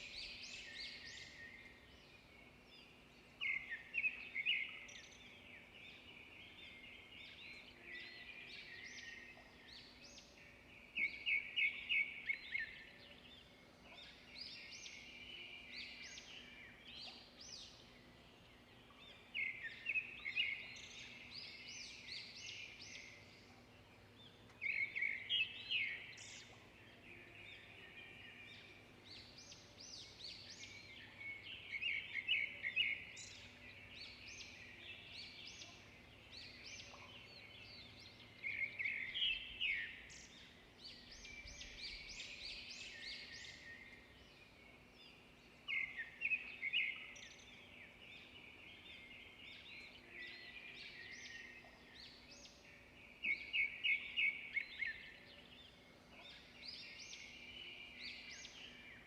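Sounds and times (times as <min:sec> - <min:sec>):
bird song of rapid repeated notes: 0:00.0 - 0:59.0.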